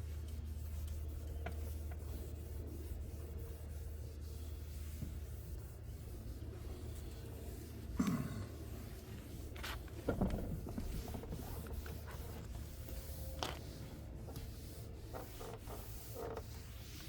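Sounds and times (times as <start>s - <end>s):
polisher pad rubbing plastic: 0.0s - 8.0s, 8.7s - 17.0s.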